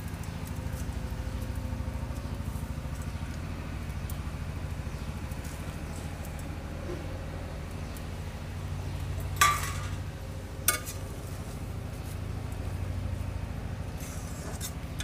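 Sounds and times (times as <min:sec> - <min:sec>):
curry simmering with pops: 0:00.0 - 0:13.9.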